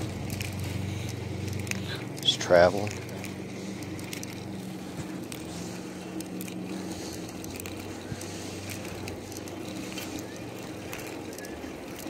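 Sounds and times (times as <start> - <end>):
bike tyres rolling on asphalt: 0.0 - 12.0
low motor hum: 0.0 - 12.0
small clicks and rattles: 0.0 - 12.0.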